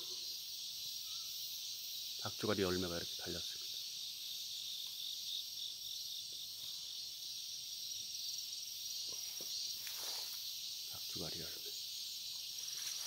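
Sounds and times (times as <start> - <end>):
crickets and insects chirping: 0.0 - 13.0.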